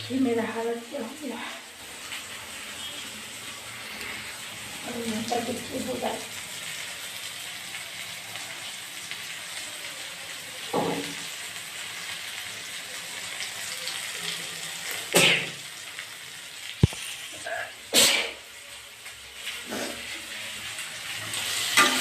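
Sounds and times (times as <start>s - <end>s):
chilli masala sizzling in a pan: 0.0s - 22.0s.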